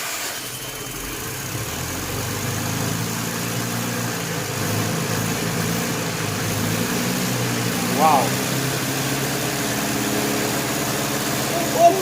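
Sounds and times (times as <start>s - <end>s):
engine mechanical hum: 0.0s - 12.0s
vacuum cleaner rushing: 0.0s - 12.0s.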